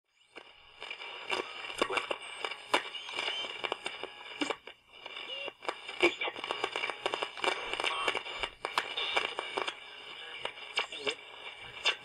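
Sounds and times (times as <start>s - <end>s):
irregular crackling and clicking: 0.3s - 12.0s.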